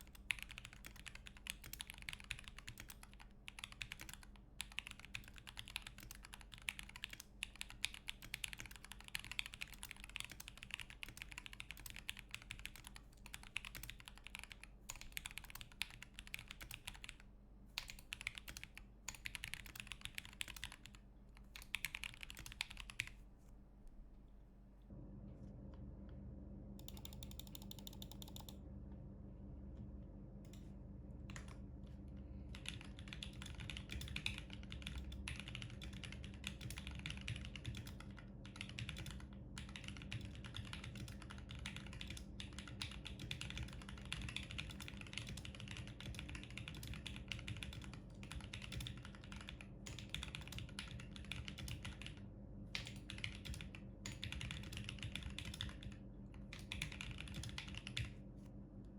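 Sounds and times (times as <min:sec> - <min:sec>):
mechanical keyboard typing: 0:00.0 - 0:23.2, 0:26.8 - 0:28.6, 0:32.5 - 0:58.2.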